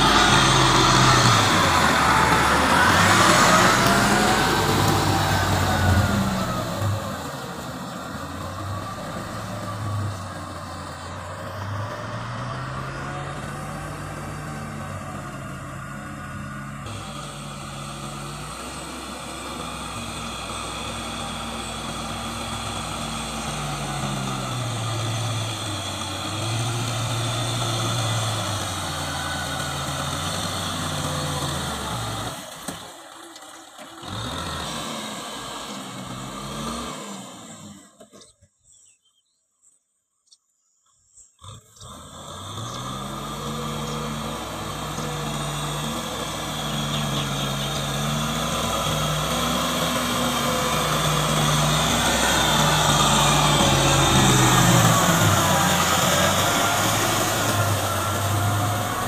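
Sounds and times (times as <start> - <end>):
tractor diesel engine running: 0.0 - 38.0, 41.6 - 59.0.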